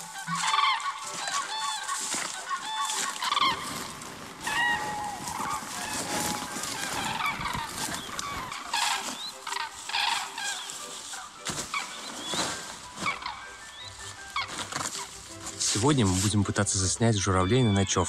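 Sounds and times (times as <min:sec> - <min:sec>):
cranes trumpeting calls: 0:00.0 - 0:15.7
tent rustling through undergrowth: 0:00.0 - 0:17.8
footsteps through dry undergrowth: 0:00.0 - 0:18.0.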